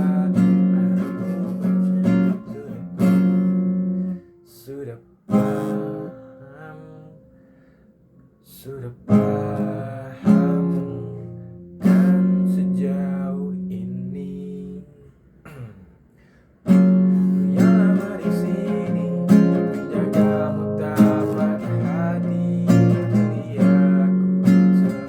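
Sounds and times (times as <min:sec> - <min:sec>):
acoustic guitar strumming: 0:00.0 - 0:07.9, 0:08.5 - 0:14.8, 0:16.6 - 0:25.0.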